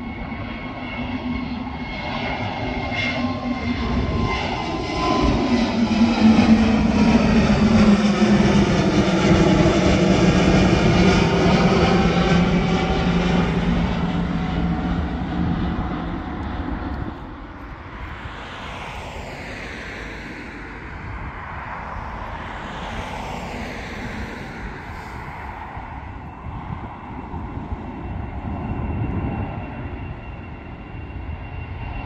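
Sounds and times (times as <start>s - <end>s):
jet airliner engines droning: 0.0s - 32.0s.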